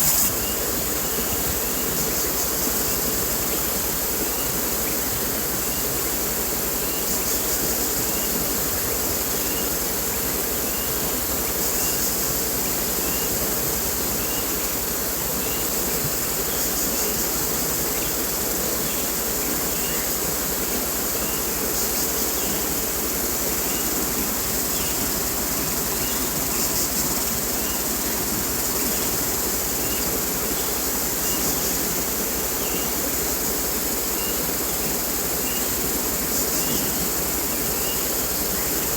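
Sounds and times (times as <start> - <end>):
flowing stream water: 0.0 - 38.9
high insect chorus: 0.0 - 38.9.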